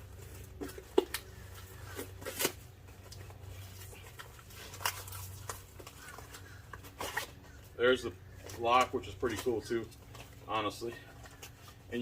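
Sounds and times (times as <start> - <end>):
hands rummaging through packaging: 0.0 - 12.0
steady low hum: 0.0 - 12.0.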